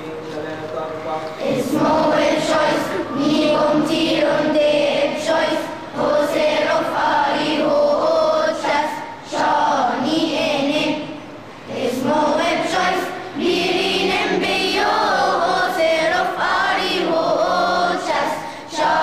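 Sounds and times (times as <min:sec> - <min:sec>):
children singing a hymn: 0:01.0 - 0:19.0.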